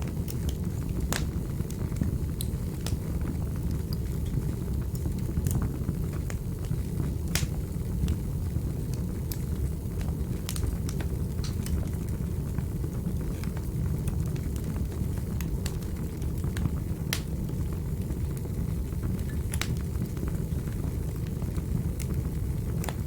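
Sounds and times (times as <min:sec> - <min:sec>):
fire flames rumbling: 0:00.0 - 0:23.0
wood fire pops and snaps: 0:00.0 - 0:23.0.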